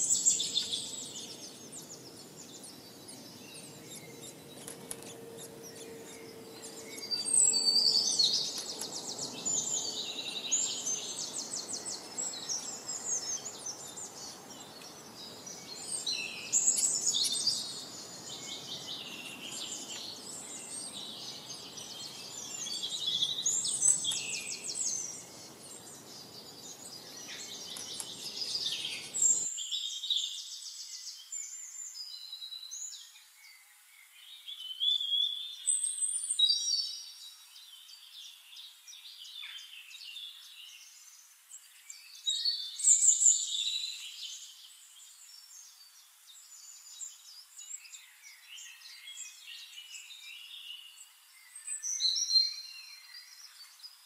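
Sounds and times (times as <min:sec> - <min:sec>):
songbirds trilling and chirping: 0:00.0 - 0:54.0.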